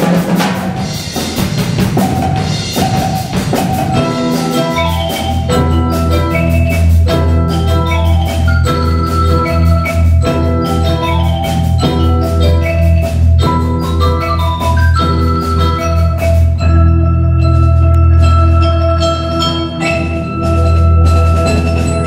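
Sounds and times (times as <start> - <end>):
drums: 0.0 - 22.0
mallet percussion ensemble: 0.0 - 22.0.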